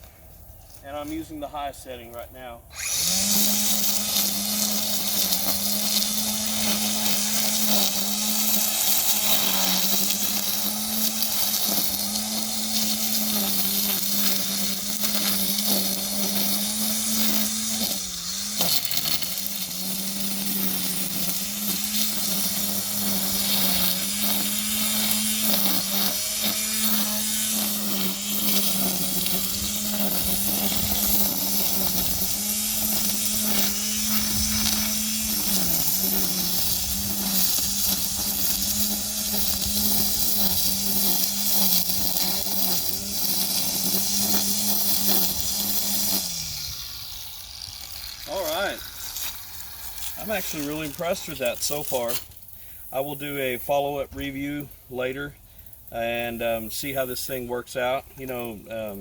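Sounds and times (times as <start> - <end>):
string trimmer running: 2.1 - 59.0.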